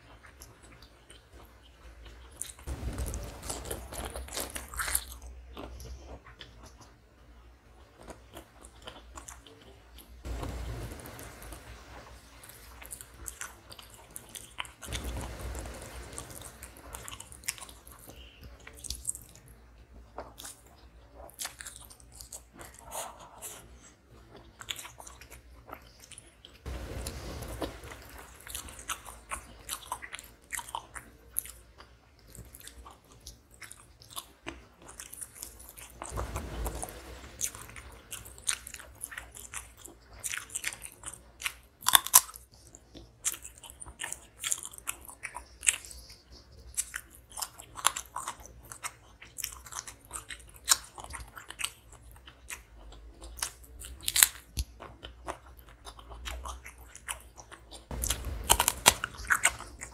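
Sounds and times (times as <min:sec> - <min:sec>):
person chewing and crunching food: 0:00.0 - 0:10.5, 0:12.3 - 0:59.9.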